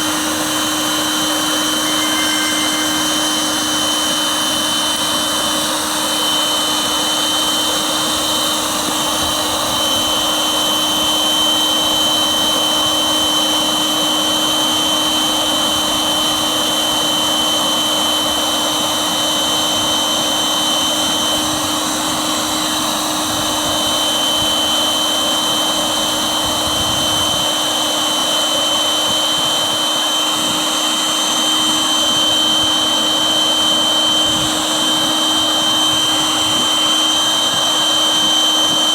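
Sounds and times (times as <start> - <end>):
electric air pump running: 0.0 - 38.9.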